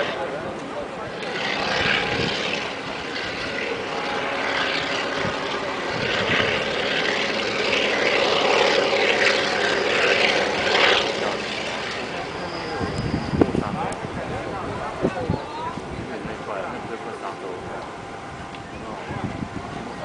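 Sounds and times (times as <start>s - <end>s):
distant freight train rumbling: 0.0s - 20.0s.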